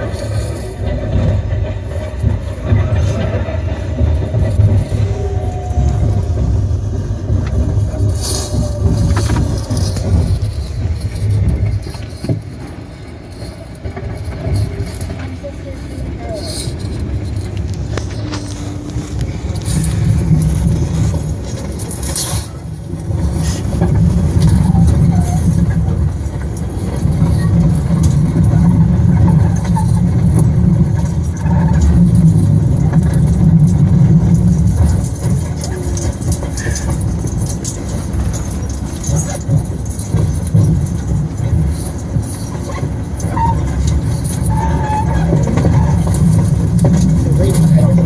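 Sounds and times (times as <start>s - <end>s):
subway train rumbling: 0.0s - 48.0s.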